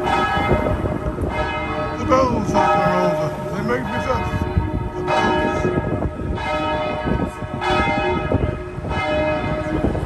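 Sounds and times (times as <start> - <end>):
church bell tolling: 0.0 - 10.0.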